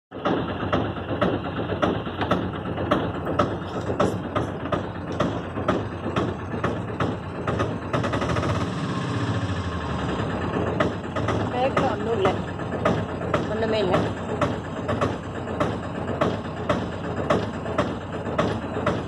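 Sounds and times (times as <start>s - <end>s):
auto-rickshaw engine running: 0.1s - 19.0s
sharp rattles: 0.2s - 19.0s.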